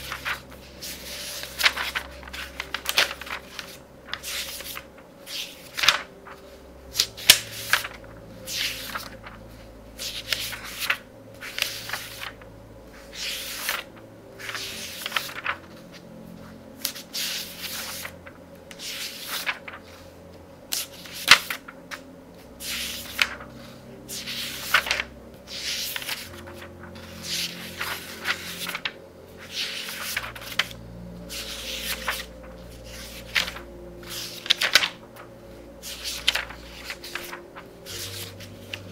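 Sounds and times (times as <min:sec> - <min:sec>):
book pages turning: 0:00.0 - 0:38.9
soft music with low notes: 0:00.0 - 0:38.9.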